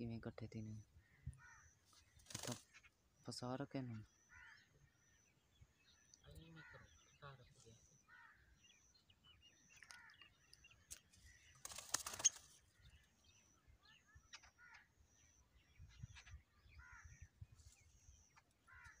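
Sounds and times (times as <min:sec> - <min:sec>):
faint high bird chirps: 0:00.0 - 0:19.0.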